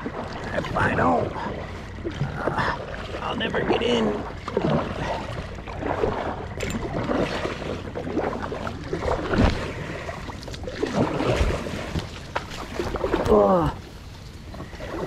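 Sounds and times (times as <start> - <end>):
kayak paddle splashing: 0.0 - 15.0.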